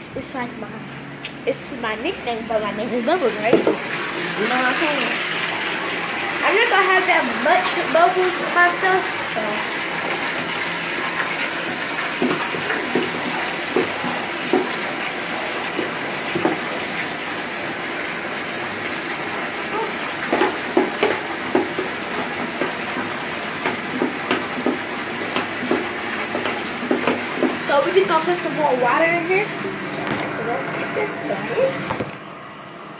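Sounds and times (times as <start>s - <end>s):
tap running into bathtub: 3.2s - 30.3s.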